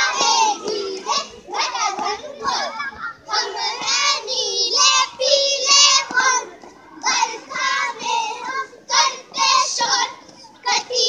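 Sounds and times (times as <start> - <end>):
girls singing in unison: 0.0 - 11.0.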